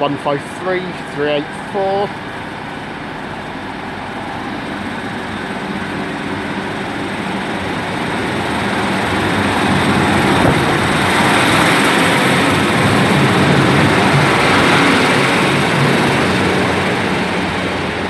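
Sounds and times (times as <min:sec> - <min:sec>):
diesel train engines running hard: 0:00.0 - 0:18.0.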